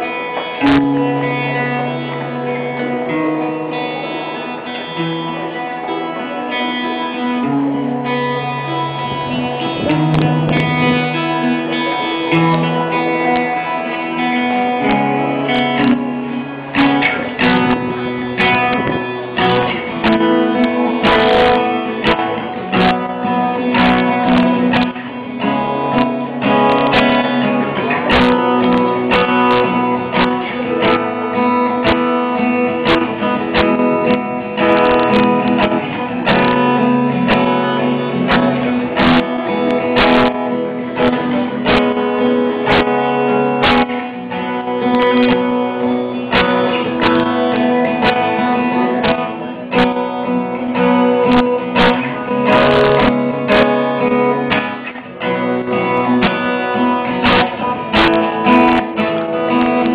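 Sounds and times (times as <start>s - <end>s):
guitar-led backing music: 0.0s - 59.9s.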